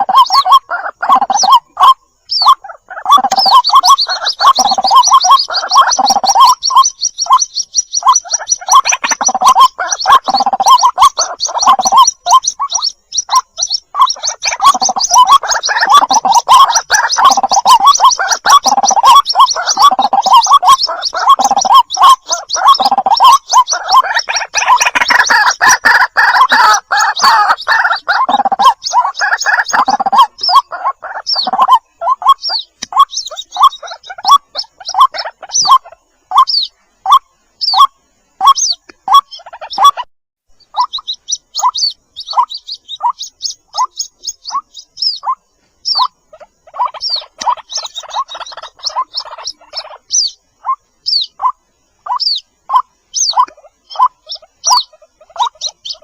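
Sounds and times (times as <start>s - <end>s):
chicks peeping: 0.0s - 56.0s
higher chirps: 0.0s - 56.0s
low throaty bird calls: 0.0s - 56.0s.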